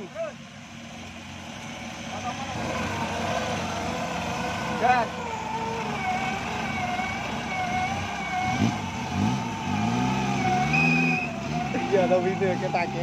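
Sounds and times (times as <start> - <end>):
engine revving under load: 0.8 - 13.0.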